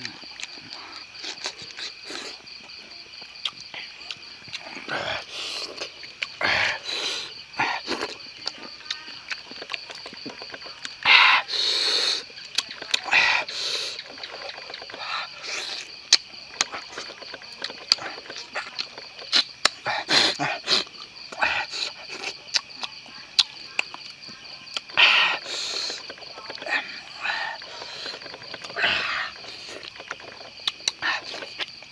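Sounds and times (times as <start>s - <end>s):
chewing and lip-smacking: 0.0s - 11.1s, 12.0s - 31.9s
night insects calling: 0.0s - 31.9s.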